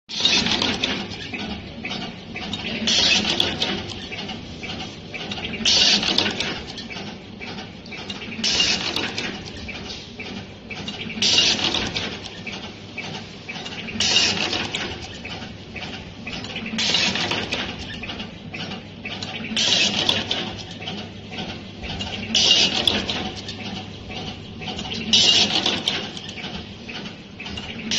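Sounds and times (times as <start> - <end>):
steady mechanical clatter: 0.1 - 27.9.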